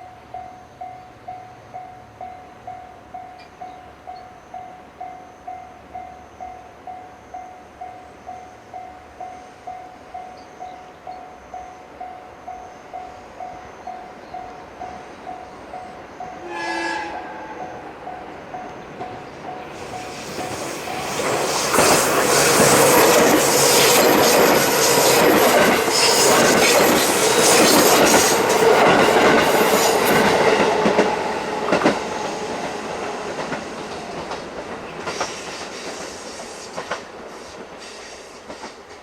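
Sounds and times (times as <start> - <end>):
train passing: 0.0 - 39.0.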